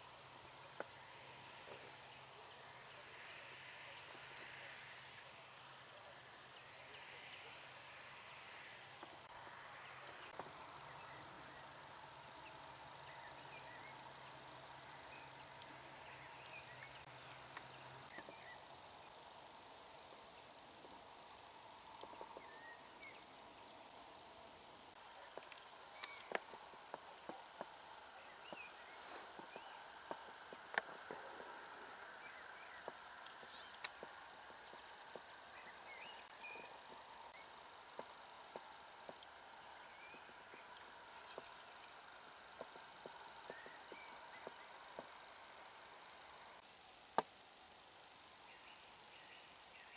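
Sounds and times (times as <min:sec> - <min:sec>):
faint outdoor hiss: 0:00.0 - 0:49.9
low steady hum: 0:00.0 - 0:49.9.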